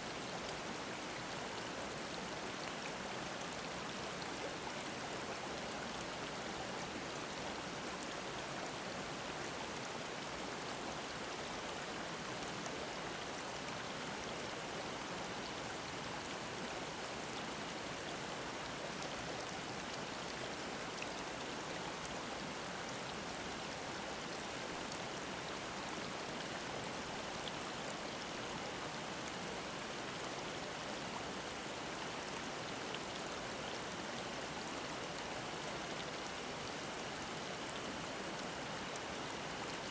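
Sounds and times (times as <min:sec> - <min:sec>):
stream babbling over rocks: 0:00.1 - 0:39.9.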